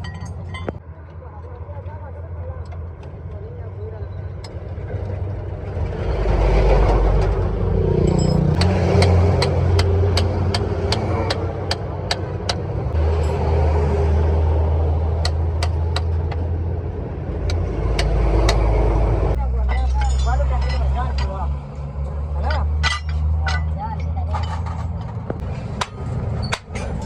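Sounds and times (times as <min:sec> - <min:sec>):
heavy vehicle engine rumble: 0:00.0 - 0:27.0.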